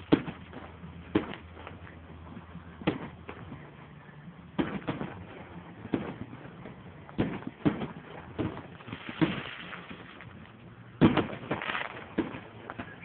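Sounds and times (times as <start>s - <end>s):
faint hiss: 0.0s - 13.0s
fireworks bursting: 0.0s - 13.0s.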